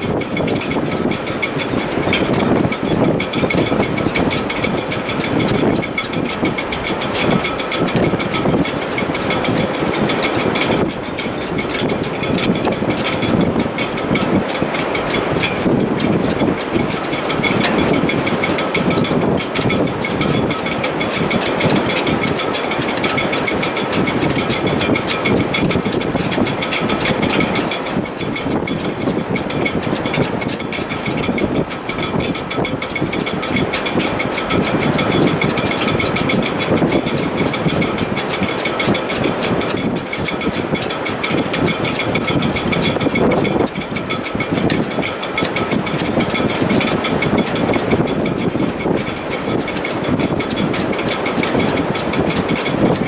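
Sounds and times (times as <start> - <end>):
rigging whistling in wind: 0.0 - 53.0
rushing wind: 0.0 - 53.0.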